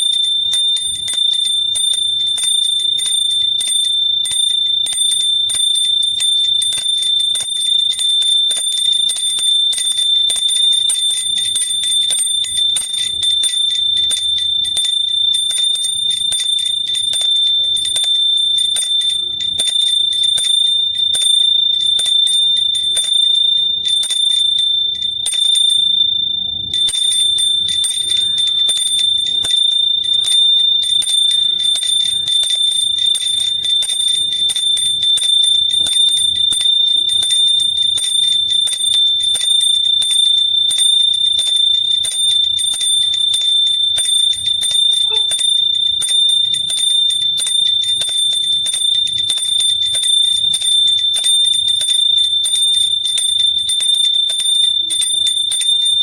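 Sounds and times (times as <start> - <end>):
hand bell ringing rapidly: 0.0 - 56.0.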